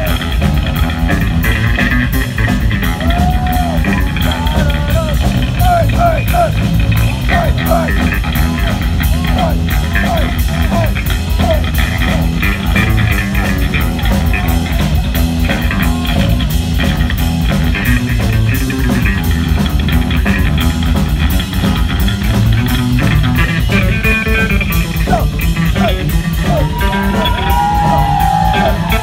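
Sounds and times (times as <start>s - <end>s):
electric bass guitar solo: 0.0s - 29.0s.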